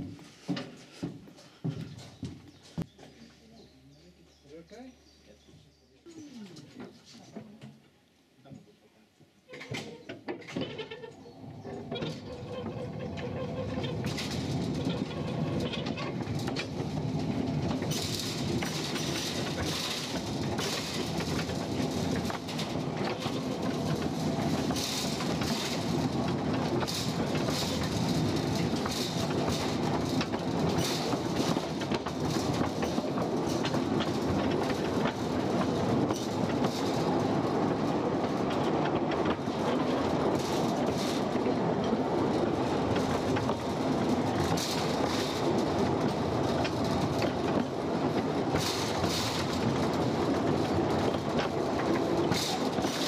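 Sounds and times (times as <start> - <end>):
train wheels rumbling: 0.0 - 4.8, 10.3 - 53.0
wheels clicking over rails: 9.5 - 53.0.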